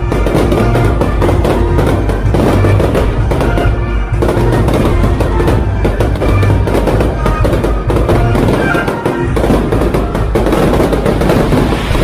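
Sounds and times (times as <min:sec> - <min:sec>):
fireworks bursting and crackling: 0:00.0 - 0:12.0
loud music: 0:00.0 - 0:12.0.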